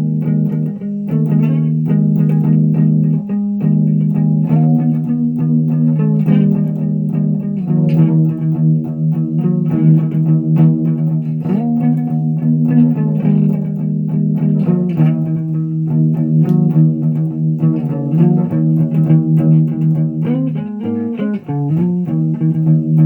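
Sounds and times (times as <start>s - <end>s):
electric guitar through an amp: 0.0s - 23.0s.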